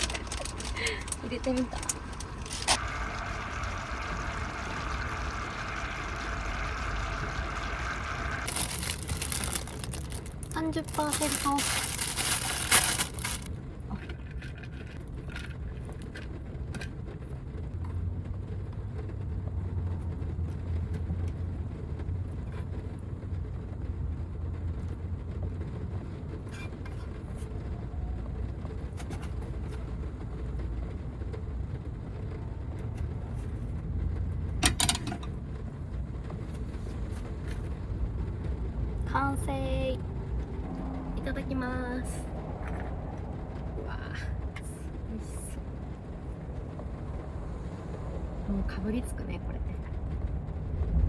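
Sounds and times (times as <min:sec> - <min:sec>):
rain drumming on van roof: 0:00.0 - 0:51.0.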